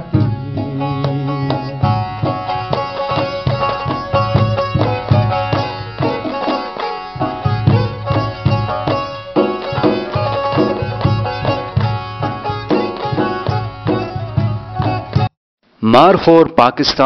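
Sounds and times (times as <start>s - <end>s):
hand drum beat: 0.0s - 15.3s
plucked string melody: 0.0s - 15.3s.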